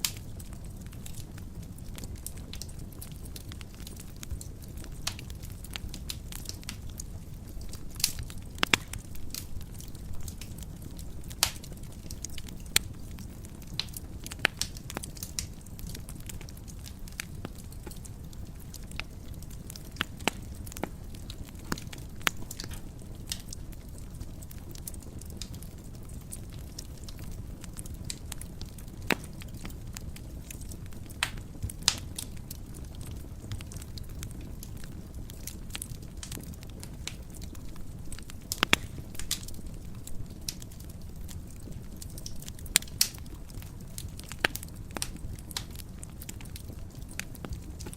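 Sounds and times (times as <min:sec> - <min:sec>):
fire crackling and popping: 0:00.0 - 0:47.9
low rumble of flames: 0:00.0 - 0:47.9.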